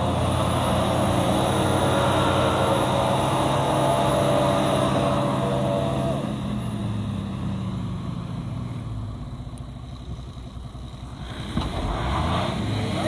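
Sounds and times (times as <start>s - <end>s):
engine droning under load: 0.0s - 13.0s.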